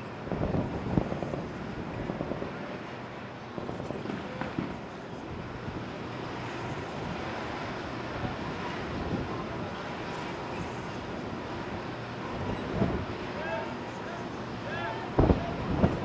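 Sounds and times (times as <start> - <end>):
wind on microphone: 0.0 - 2.8, 3.5 - 13.2, 15.2 - 16.0
steady noisy rush: 0.0 - 16.0.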